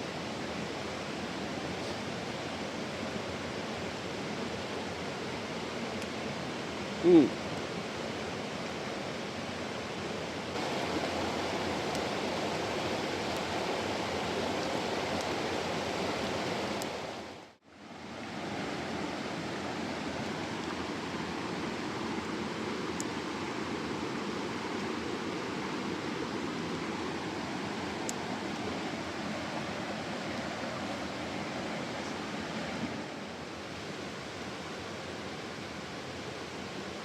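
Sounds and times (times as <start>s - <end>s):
mountain stream rushing: 0.0s - 37.0s.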